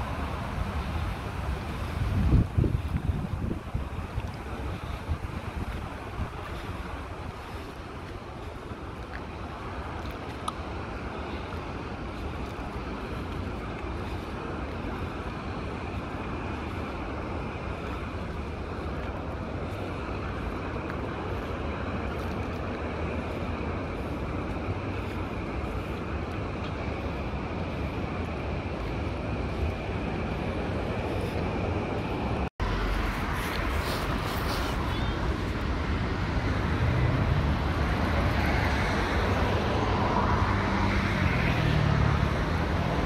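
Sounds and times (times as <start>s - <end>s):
moving vehicle rumble: 0.0s - 43.0s.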